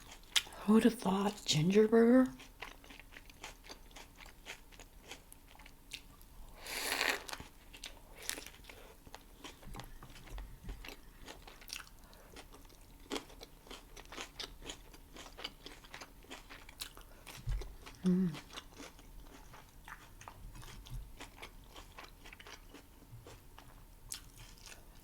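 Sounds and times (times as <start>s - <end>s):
chewing with wet mouth clicks: 0.0s - 0.6s, 2.4s - 6.3s, 7.3s - 25.0s.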